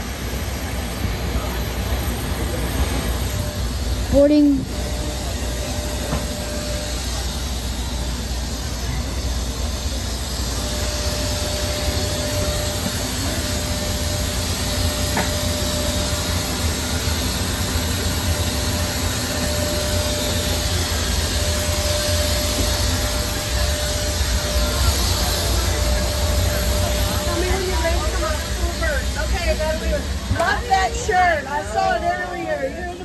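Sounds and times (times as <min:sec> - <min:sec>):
faint steady whine: 0:00.0 - 0:33.0.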